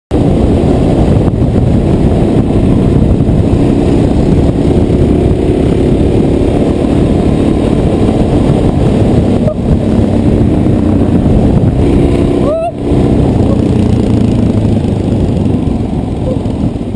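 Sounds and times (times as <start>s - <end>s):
loud wind rush: 0.1s - 16.9s
motorcycle engine cruising: 0.1s - 16.9s.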